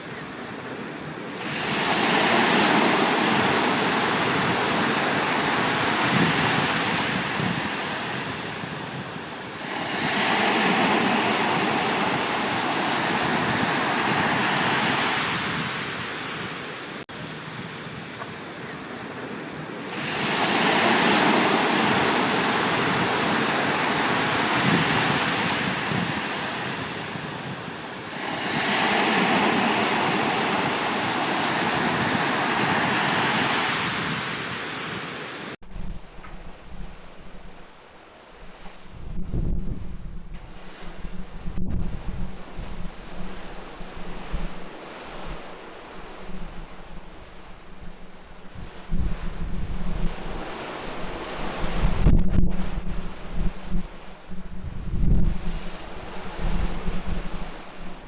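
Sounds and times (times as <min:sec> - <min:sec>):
ocean waves rushing along ship: 0:00.0 - 0:58.0.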